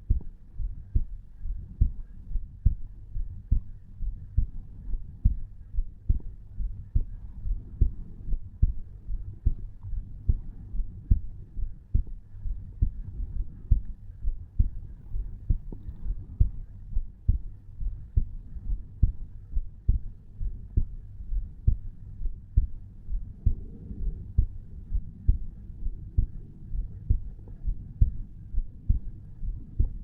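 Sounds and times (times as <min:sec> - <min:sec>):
heartbeat thuds: 0:00.0 - 0:30.0.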